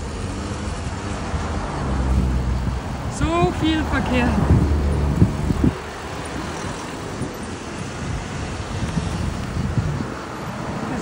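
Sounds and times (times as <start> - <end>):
cars passing rumble: 0.0 - 11.0.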